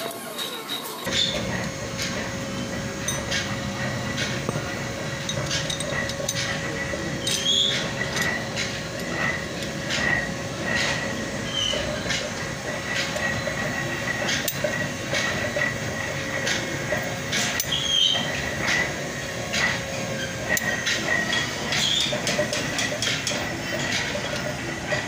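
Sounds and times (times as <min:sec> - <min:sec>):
steady background hum: 0:00.0 - 0:25.0
steel rollers clinking on metal: 0:00.0 - 0:25.0.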